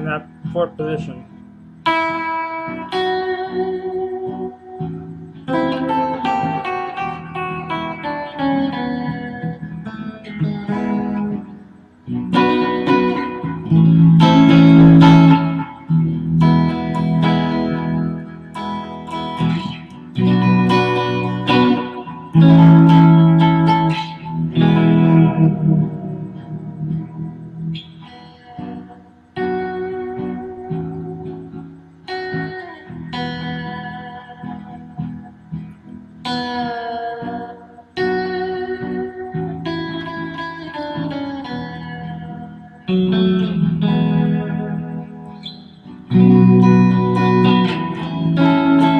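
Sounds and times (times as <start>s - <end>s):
electric guitar played solo: 0.0s - 48.9s.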